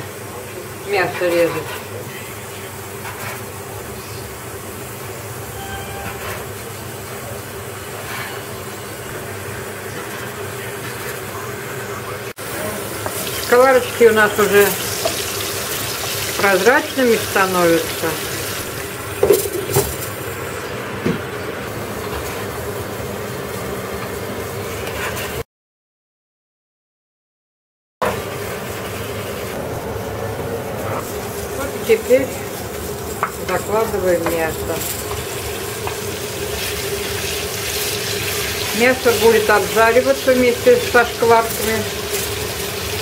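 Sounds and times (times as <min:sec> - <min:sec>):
fat sizzling in a pan: 0:00.0 - 0:25.4, 0:28.0 - 0:43.0.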